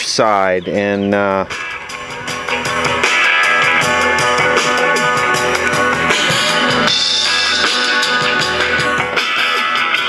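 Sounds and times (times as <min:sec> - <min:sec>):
rock music with drum beat: 0:01.1 - 0:10.0.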